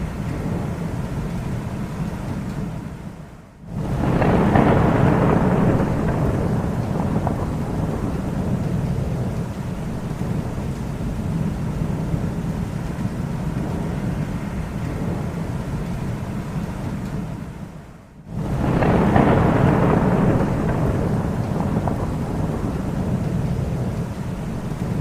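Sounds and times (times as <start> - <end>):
thunder rumbling: 0.0 - 25.0.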